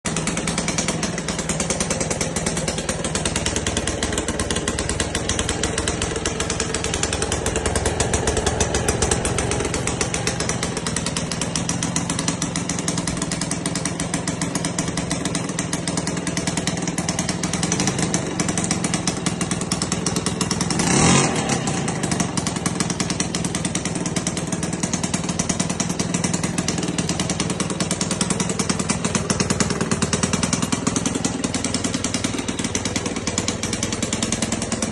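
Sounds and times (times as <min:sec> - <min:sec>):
moped engine fast idle: 0:00.1 - 0:34.9.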